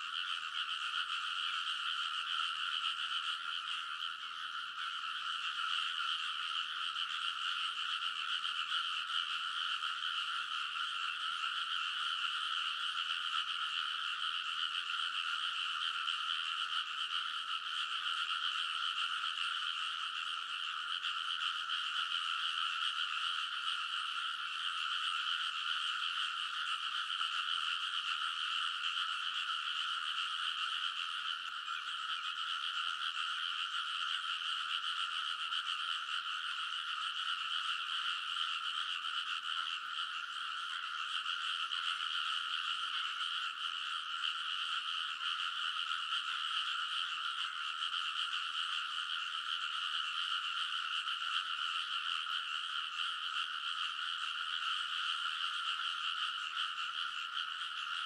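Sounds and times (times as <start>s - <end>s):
frogs calling in chorus: 0.0s - 58.0s.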